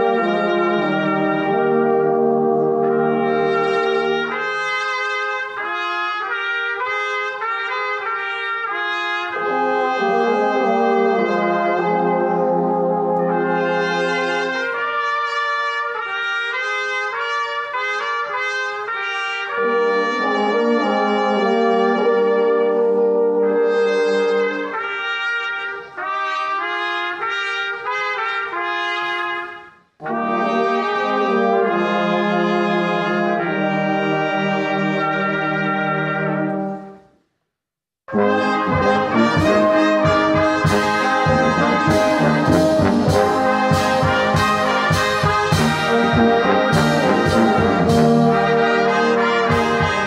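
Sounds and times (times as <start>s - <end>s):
brass band playing a hymn: 0.0s - 37.1s, 38.1s - 50.0s.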